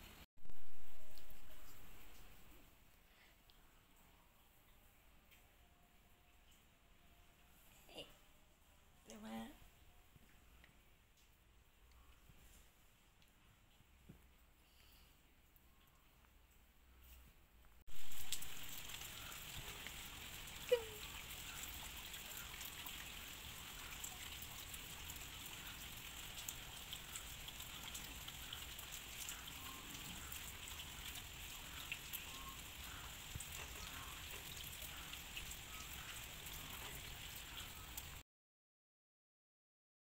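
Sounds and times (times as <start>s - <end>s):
rain on concrete: 0.0s - 5.5s, 10.2s - 16.7s, 17.8s - 38.2s.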